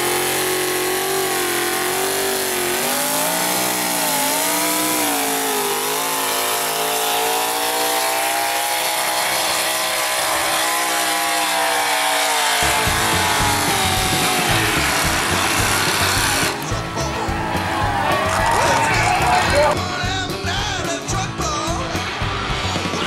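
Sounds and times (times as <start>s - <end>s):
truck engine running hard: 0.0s - 23.0s.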